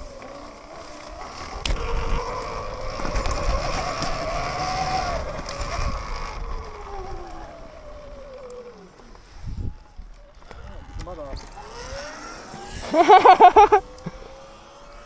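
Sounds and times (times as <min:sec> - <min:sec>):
electric motorbike motor whining: 0:00.0 - 0:15.0.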